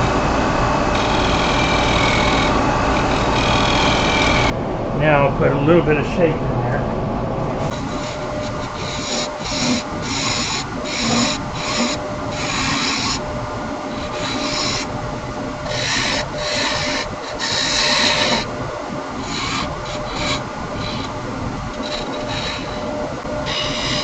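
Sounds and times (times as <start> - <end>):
wood lathe humming: 0.0 - 24.0
turning tool scraping wood: 0.9 - 4.5, 7.6 - 24.0.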